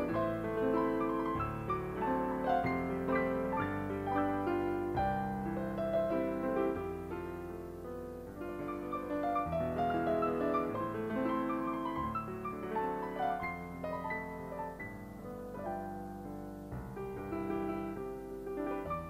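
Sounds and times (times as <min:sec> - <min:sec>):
solo piano piece: 0:00.0 - 0:19.0.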